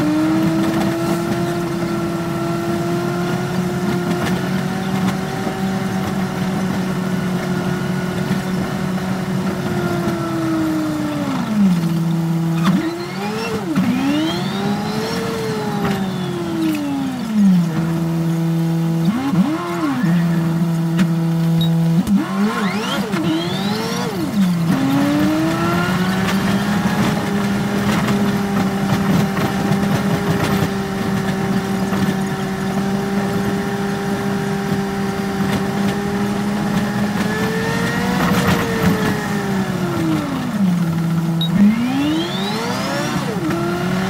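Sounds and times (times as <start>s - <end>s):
bus engine and drivetrain: 0.0s - 44.0s.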